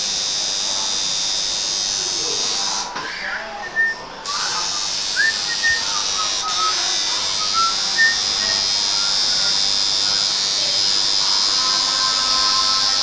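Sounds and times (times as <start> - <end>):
tattoo machine buzzing: 0.0 - 3.0, 3.7 - 13.0.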